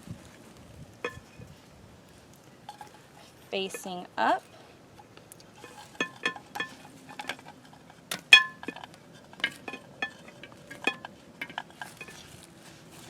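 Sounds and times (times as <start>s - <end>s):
clay pots clinking: 1.0s - 1.6s, 2.4s - 13.0s.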